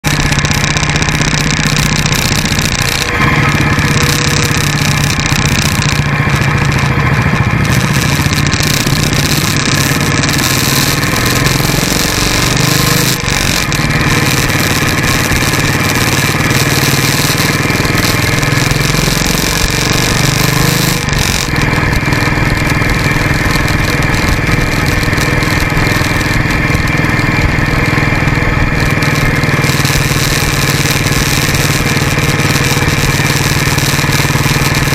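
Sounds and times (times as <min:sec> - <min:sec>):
motorcycle engine running: 0:00.0 - 0:34.9
road and wind noise: 0:00.0 - 0:34.9.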